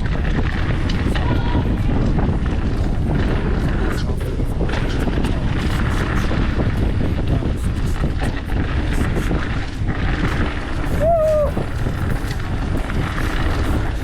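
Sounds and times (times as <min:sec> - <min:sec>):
bike rattling and ticking: 0:00.0 - 0:14.0
wind on microphone: 0:00.0 - 0:14.0.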